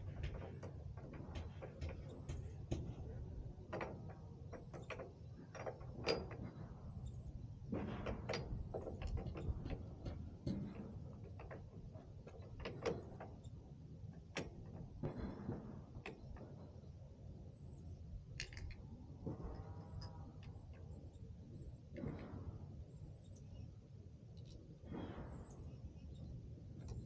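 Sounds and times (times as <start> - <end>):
small clicks and knocks: 0.0 - 23.6, 24.3 - 25.3.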